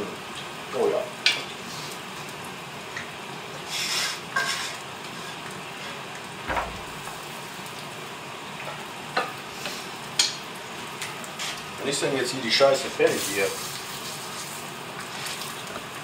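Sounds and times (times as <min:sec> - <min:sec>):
egg sizzling in pan: 0:00.1 - 0:16.0.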